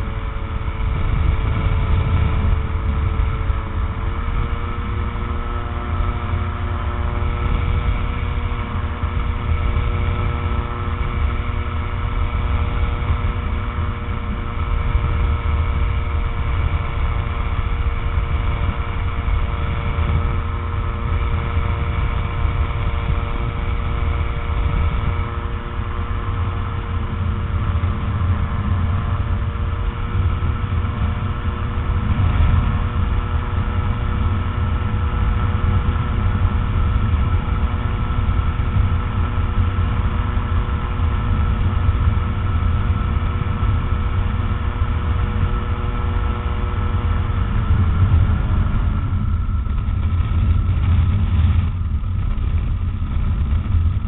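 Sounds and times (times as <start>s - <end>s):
aircraft engine and propeller droning: 0.0s - 54.0s
heavy low rumble: 0.0s - 54.0s.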